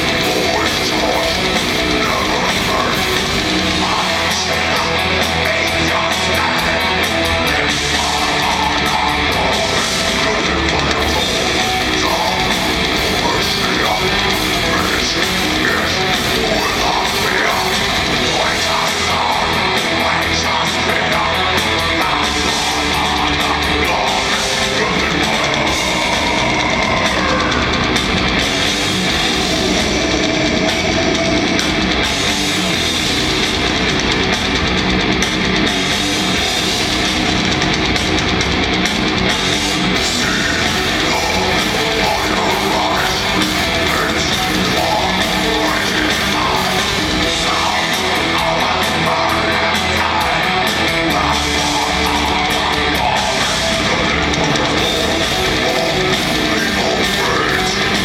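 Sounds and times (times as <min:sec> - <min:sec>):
distorted guitars: 0:00.0 - 0:58.0
drums: 0:00.0 - 0:58.0
live heavy metal band: 0:00.0 - 0:58.0.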